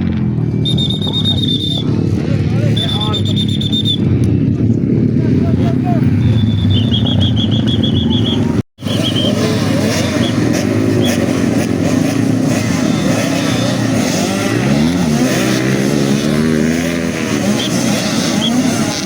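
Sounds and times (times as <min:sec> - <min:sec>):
dirt bikes revving: 0:00.0 - 0:19.0.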